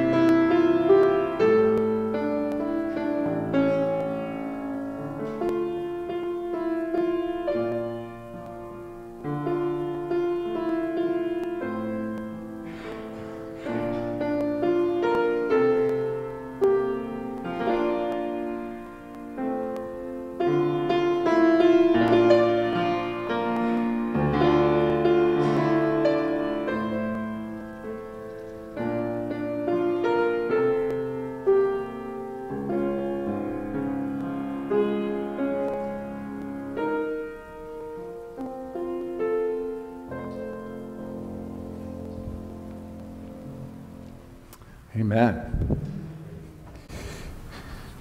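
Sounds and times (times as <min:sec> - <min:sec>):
solo piano: 0:00.0 - 0:48.0.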